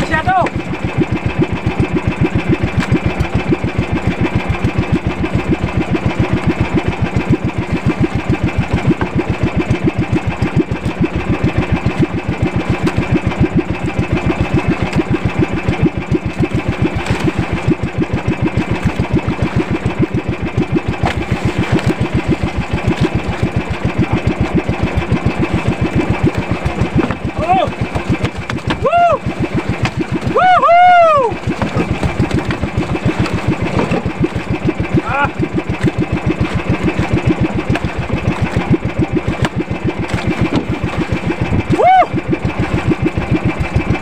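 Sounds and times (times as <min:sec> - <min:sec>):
boat engine running steadily: 0:00.0 - 0:44.0.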